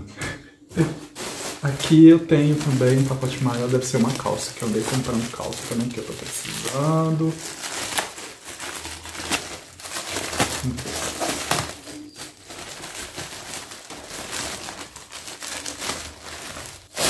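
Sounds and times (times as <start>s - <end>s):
plastic bag crinkling: 0.7s - 17.0s.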